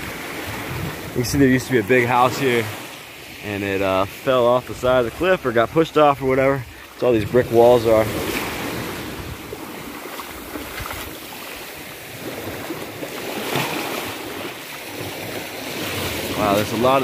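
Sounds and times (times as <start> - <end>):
ocean surf on rocky shore: 0.0 - 17.0.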